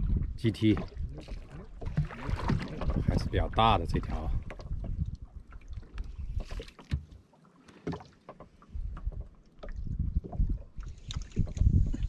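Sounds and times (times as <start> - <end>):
water sloshing against boat hull: 0.0 - 12.0.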